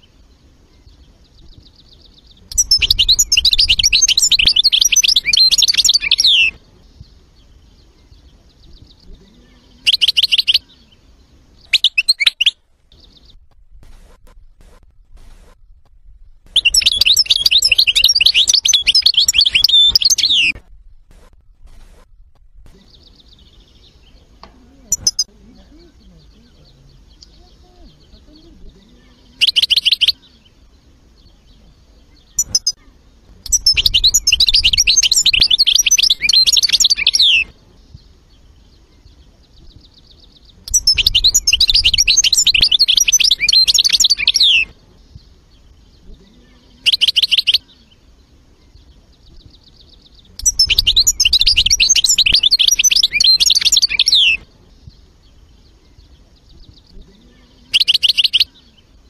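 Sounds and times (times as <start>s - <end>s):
finch twittering song: 0.0s - 20.6s, 21.2s - 59.0s.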